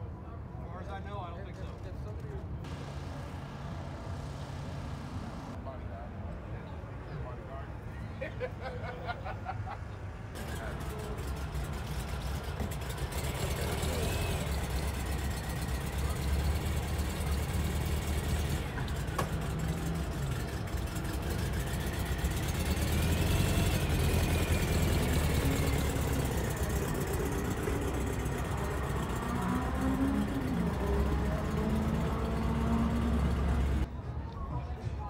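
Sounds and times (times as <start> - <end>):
bus engine driving past: 2.4 - 33.9.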